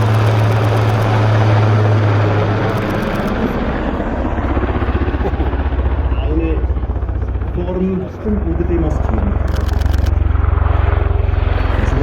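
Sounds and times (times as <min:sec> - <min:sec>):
helicopter passing: 0:00.0 - 0:12.0.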